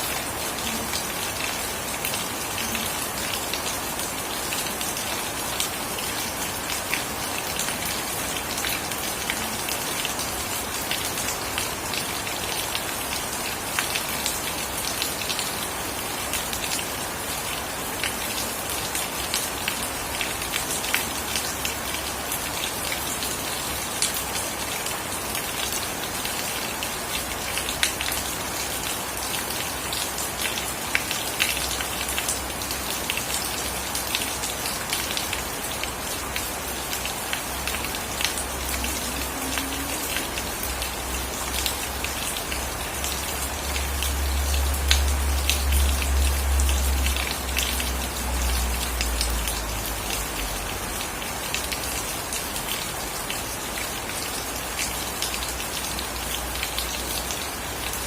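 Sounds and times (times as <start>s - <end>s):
heavy rain falling: 0.0s - 58.0s
sharp ticks of raindrops: 0.0s - 58.0s.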